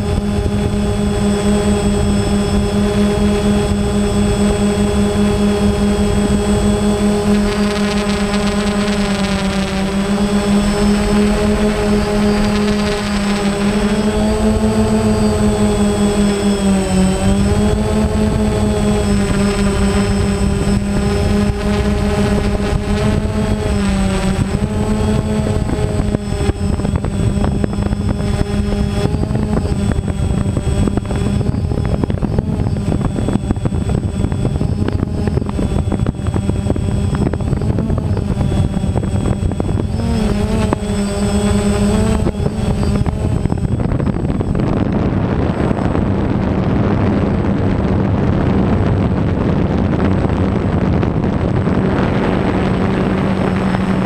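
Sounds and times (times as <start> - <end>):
air rush on microphone: 0.0 - 54.0
drone motors whining: 0.0 - 54.0.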